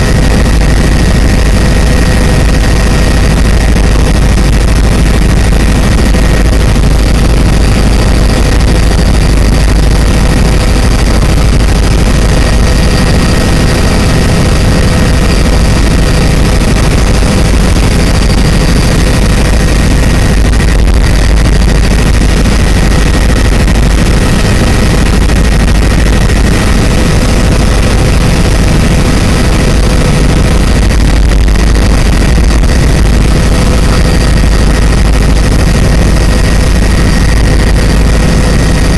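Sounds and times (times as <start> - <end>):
aircraft cabin drone: 0.0 - 38.9.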